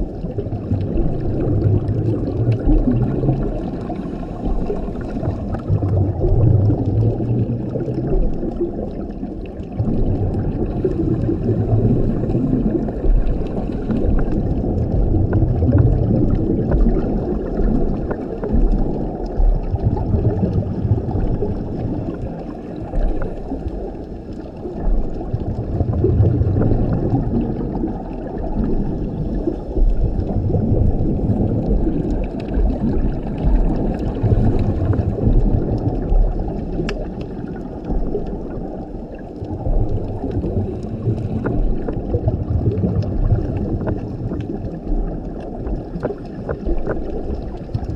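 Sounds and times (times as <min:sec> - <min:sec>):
bubbles gurgling: 0:00.0 - 0:47.9
faint clicks in water: 0:00.0 - 0:47.9.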